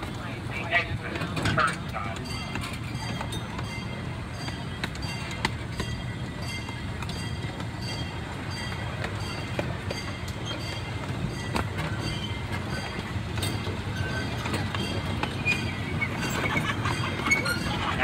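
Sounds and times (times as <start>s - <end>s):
clicks and knocks of train wheels: 0.0s - 18.0s
small train rumbling on track: 0.0s - 18.0s.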